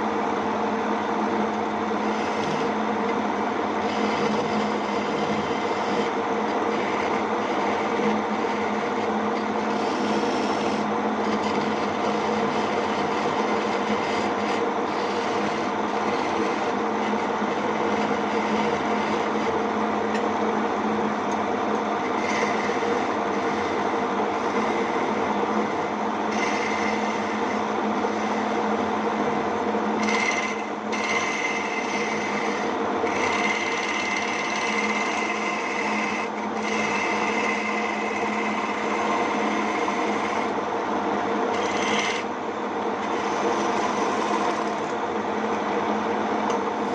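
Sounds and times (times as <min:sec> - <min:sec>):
wood lathe motor hum: 0:00.0 - 0:46.9.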